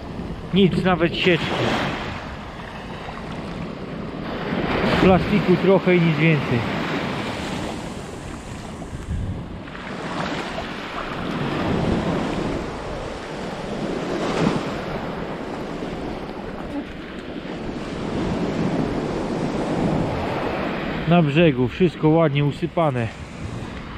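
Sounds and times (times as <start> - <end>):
wind buffeting microphone: 0.0 - 21.1, 22.7 - 23.9
surf breaking on beach: 0.0 - 23.9.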